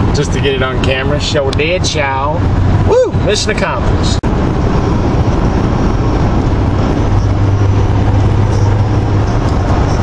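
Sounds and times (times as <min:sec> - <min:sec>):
truck cab road and engine noise: 0:00.0 - 0:10.0.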